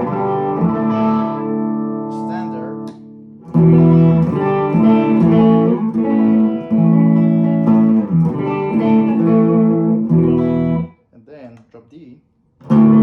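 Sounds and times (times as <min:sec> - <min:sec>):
electric guitar chords: 0:00.0 - 0:11.0, 0:12.6 - 0:13.0.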